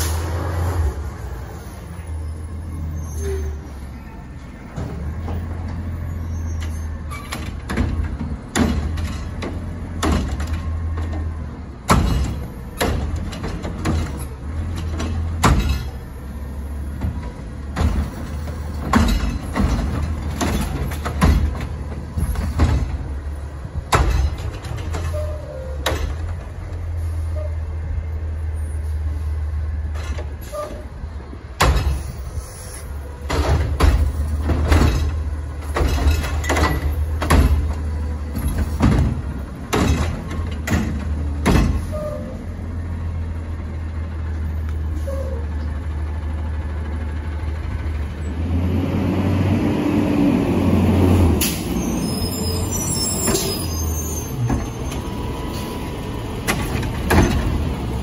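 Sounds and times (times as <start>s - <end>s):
carts clanking and banging: 0.0s - 27.6s, 29.8s - 45.6s, 50.7s - 58.0s
garbage truck engine running: 0.0s - 58.0s.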